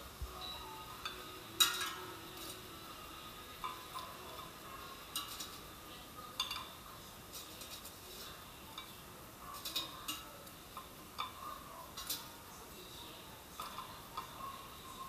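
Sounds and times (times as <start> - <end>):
metal tongs clicking and clinking: 0.4 - 2.8, 3.5 - 5.7, 6.3 - 12.4, 13.6 - 15.0.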